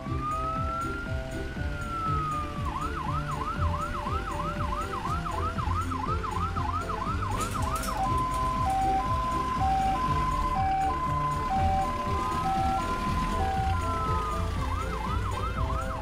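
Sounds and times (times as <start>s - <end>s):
ambulance siren: 0.0s - 16.0s.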